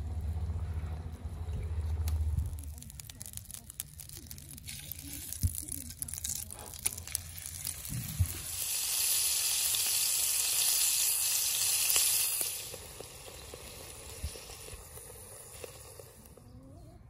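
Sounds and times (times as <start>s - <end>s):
steak sizzling in a pan: 2.2s - 16.4s.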